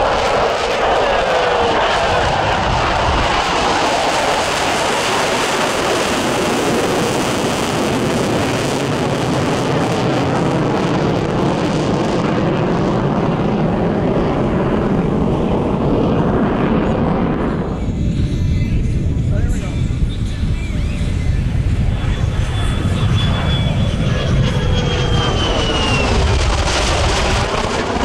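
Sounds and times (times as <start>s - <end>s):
jet engine in afterburner: 0.0s - 28.0s.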